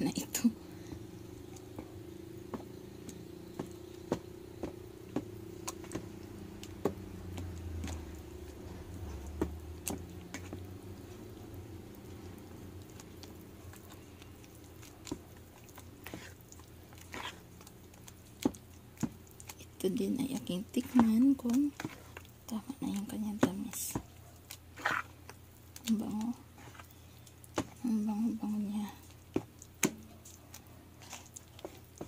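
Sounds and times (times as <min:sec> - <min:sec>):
steady low hum: 0:00.0 - 0:32.0
spatula stirring thick batter: 0:00.1 - 0:32.0.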